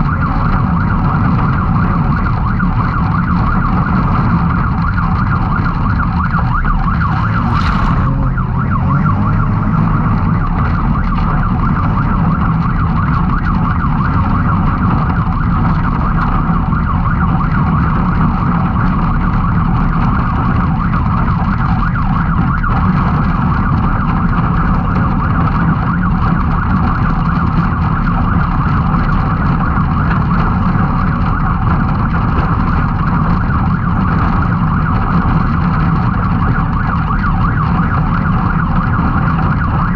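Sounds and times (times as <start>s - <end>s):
engine droning at race pace: 0.0s - 39.9s.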